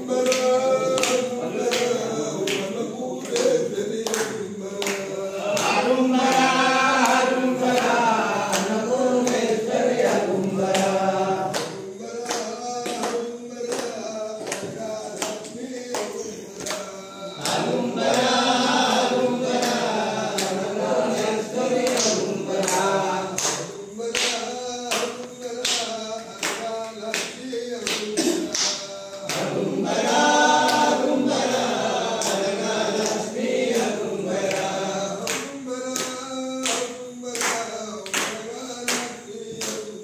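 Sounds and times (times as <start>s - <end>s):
group singing a devotional song: 0.0s - 40.0s
rhythmic hand claps: 0.0s - 40.0s.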